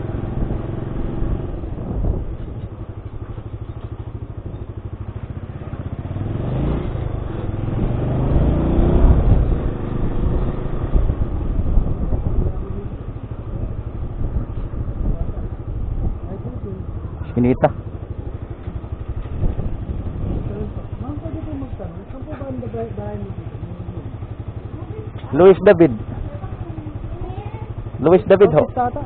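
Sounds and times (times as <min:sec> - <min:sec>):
small motorcycle engine running: 0:00.0 - 0:29.0.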